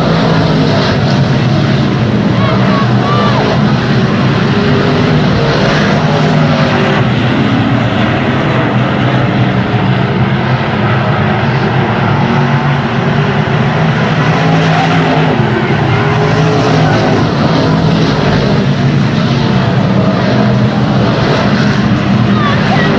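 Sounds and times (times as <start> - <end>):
racing car engine at high revs: 0.0 - 22.9.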